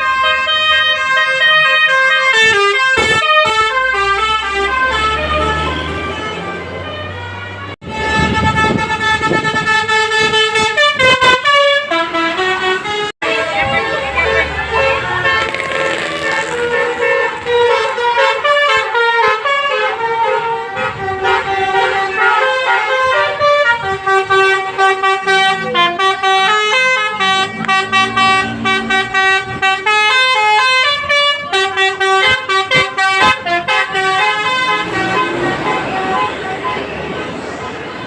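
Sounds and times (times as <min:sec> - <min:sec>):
multi-tone musical air horn: 0:00.0 - 0:37.3.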